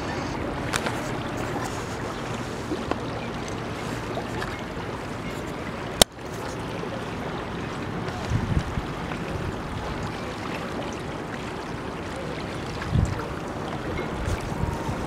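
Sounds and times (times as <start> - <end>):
water rushing past boat: 0.0 - 15.0.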